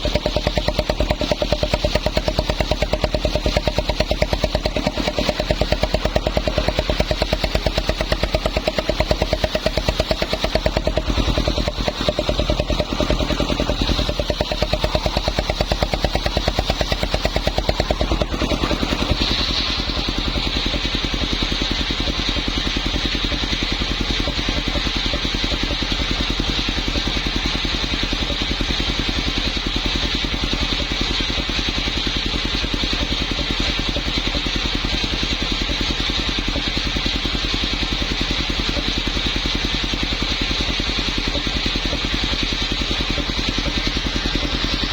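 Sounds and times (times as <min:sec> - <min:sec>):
circular saw running: 0:00.0 - 0:44.9.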